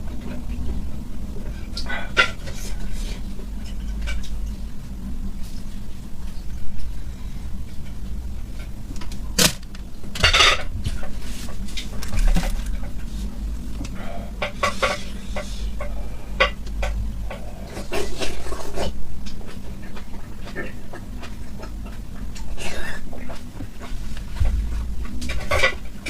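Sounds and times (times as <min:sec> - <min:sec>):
close-up eating noises: 0:00.0 - 0:26.0.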